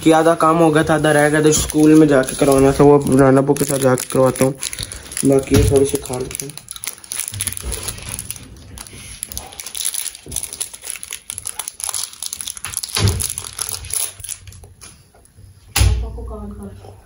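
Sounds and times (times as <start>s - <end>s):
plastic wrapper crinkling: 0.0s - 15.2s.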